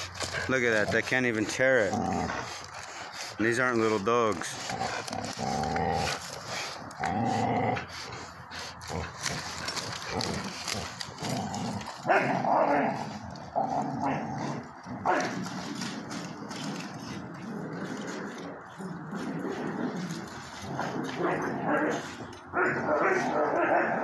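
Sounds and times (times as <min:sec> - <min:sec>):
dogs growling: 0:00.0 - 0:24.0.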